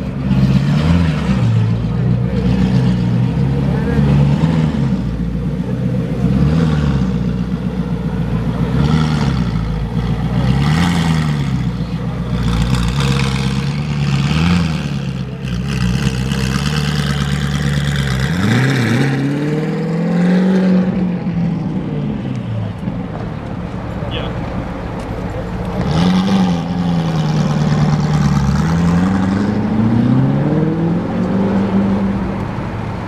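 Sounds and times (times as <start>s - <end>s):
car engine rumbling with throttle blips: 0.0s - 33.0s.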